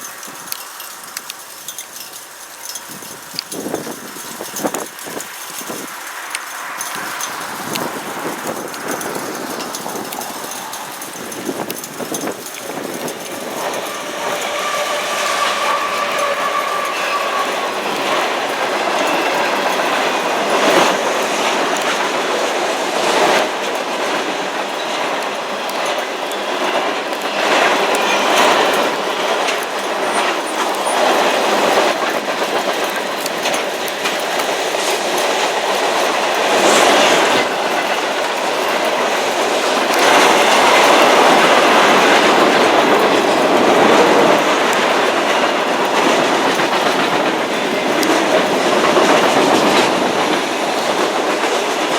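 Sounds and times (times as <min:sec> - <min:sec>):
train wheels clattering: 0:00.0 - 0:51.9.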